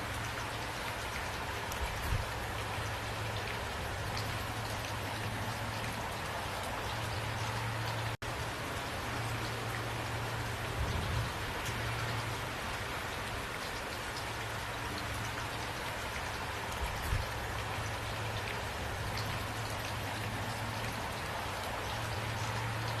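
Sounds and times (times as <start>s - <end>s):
steady rainfall: 0.0s - 23.0s.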